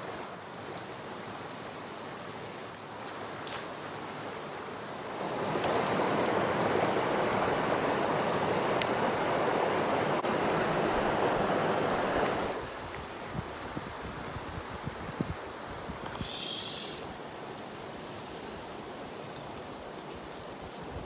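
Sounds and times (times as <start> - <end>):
river water rushing: 0.0 - 20.8.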